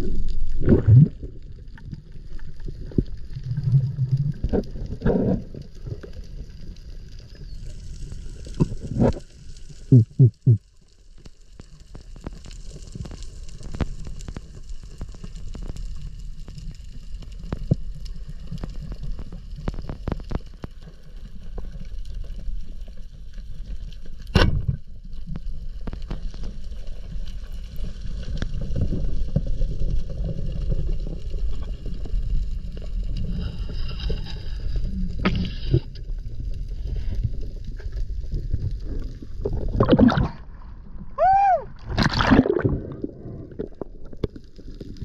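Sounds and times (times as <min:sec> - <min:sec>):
underwater rumble of moving water: 0:00.0 - 0:45.0.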